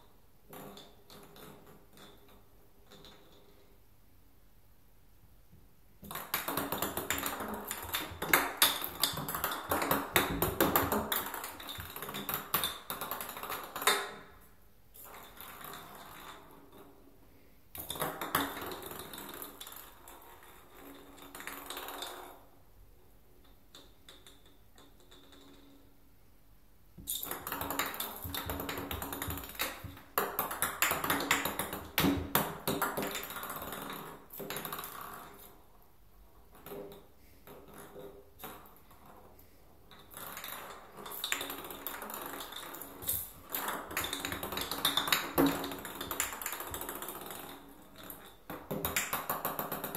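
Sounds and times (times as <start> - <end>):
ping pong ball rolling in bathtub: 0.4 - 3.7, 6.0 - 14.4, 15.0 - 17.1, 17.8 - 26.0, 27.0 - 49.9.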